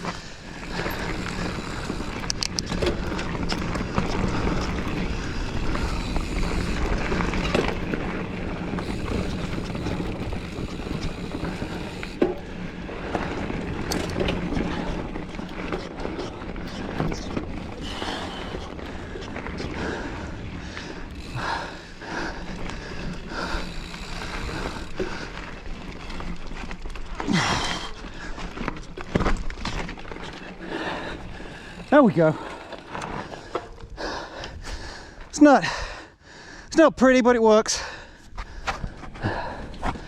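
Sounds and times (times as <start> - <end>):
bike tyres crunching on dirt: 0.0 - 36.0
bike rattling over bumps: 0.0 - 36.2, 37.7 - 40.0.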